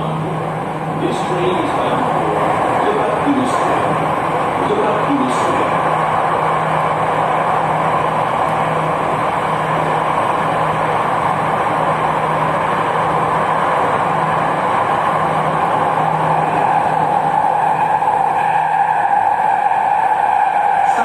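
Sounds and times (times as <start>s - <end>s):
wheel and tunnel noise: 0.0s - 21.0s.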